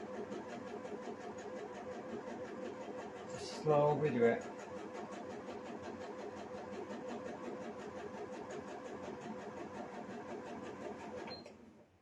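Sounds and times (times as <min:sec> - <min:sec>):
sewing machine stitching: 0:00.0 - 0:11.6.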